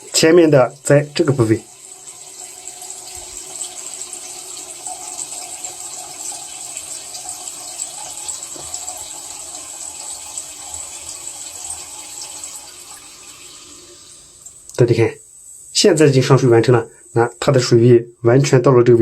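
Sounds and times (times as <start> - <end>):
toilet cistern refilling: 0.0 - 17.9
water hissing through fill valve: 0.0 - 18.5.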